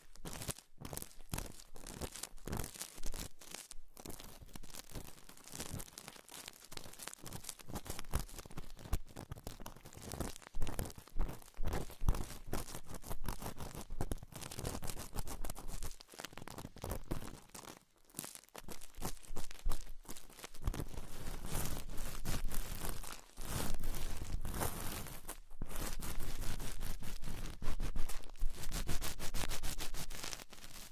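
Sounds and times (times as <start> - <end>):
crackling and scratching clicks: 0.0 - 30.9.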